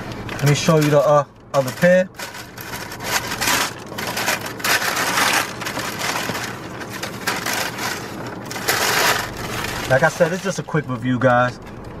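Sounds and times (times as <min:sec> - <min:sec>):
wrapping paper crinkling: 0:00.0 - 0:10.9.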